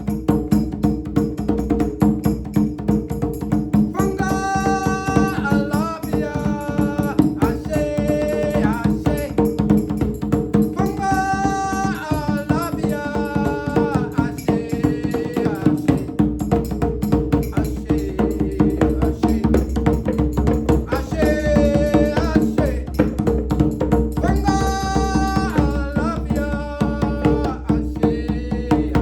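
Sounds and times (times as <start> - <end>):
djembe hand drumming: 0.0 - 29.0.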